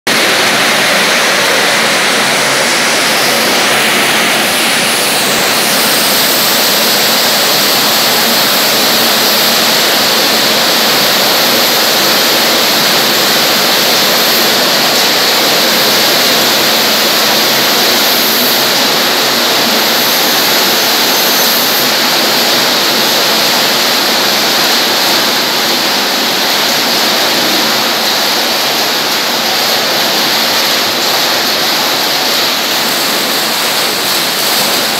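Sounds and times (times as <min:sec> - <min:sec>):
machine rushing noise: 0:00.1 - 0:34.9.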